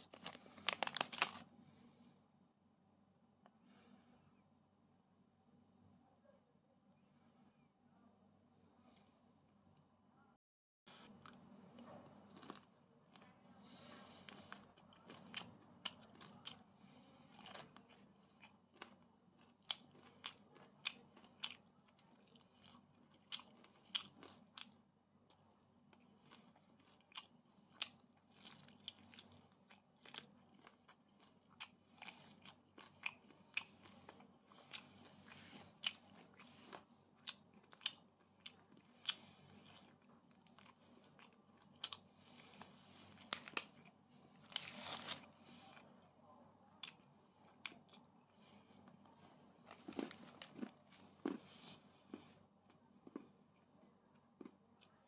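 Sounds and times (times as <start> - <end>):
person chewing crunchy food: 0.0 - 1.5, 10.9 - 45.9, 46.8 - 54.9.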